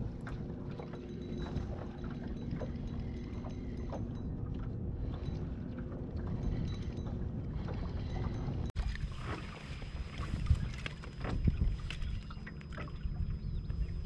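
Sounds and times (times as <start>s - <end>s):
water lapping against boat hull: 0.0s - 14.0s
wind buffeting microphone: 0.0s - 14.0s.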